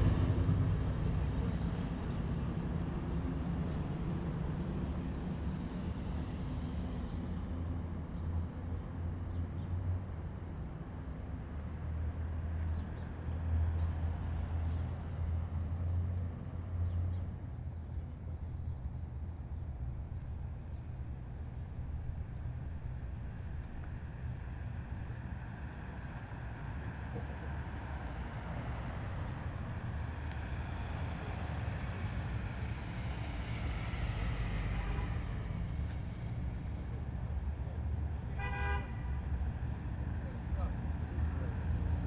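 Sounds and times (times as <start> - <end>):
heavy vehicle engines droning: 0.0 - 42.0.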